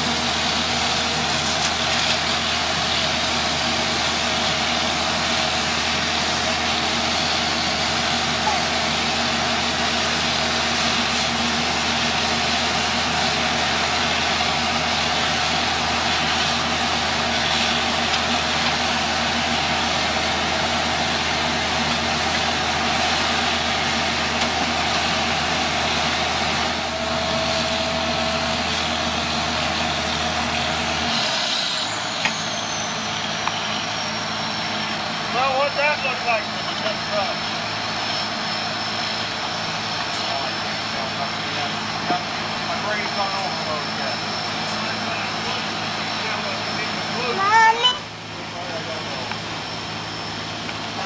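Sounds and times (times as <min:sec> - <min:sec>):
combine harvester drone: 0:00.0 - 0:51.0
high machine whine: 0:00.0 - 0:51.0.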